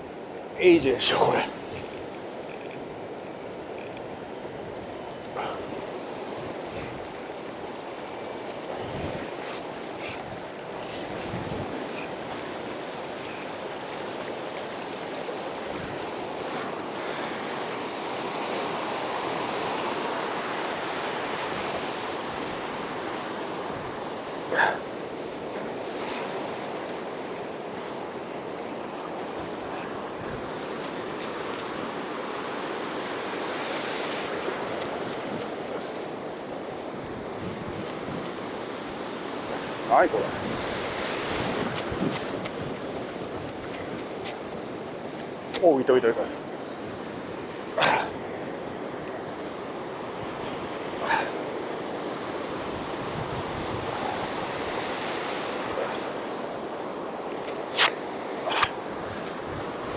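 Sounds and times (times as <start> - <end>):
ocean surf breaking on beach: 0.0 - 59.9.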